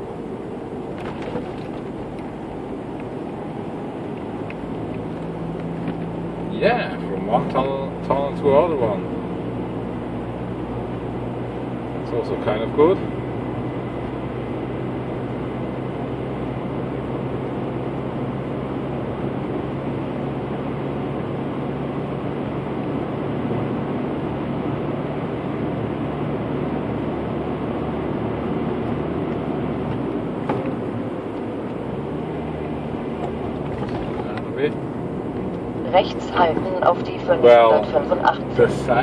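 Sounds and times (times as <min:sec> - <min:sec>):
vehicle driving through tunnel: 0:00.0 - 0:39.0.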